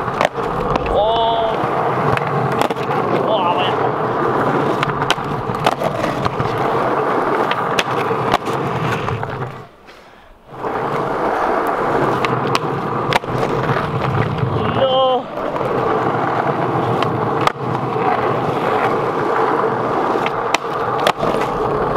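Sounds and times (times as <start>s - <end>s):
skateboard clacks: 0.0s - 21.9s
skateboard wheels rolling on asphalt: 0.0s - 21.9s.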